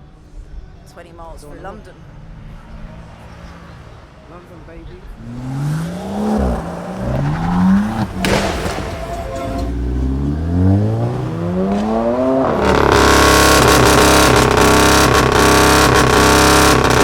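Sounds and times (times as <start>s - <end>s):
steady engine and exhaust: 0.0s - 17.0s
car engine accelerating: 2.1s - 17.0s.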